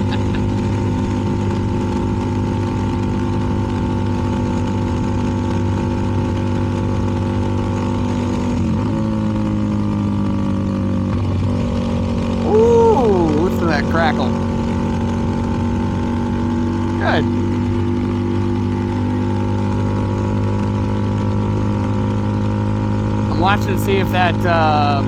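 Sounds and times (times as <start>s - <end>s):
motorcycle engine cruising: 0.0s - 25.0s
road noise: 0.0s - 25.0s.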